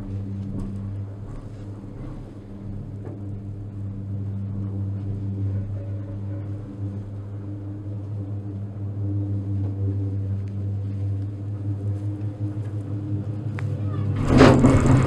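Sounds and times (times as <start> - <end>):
gondola lift mechanical hum: 0.0 - 15.0.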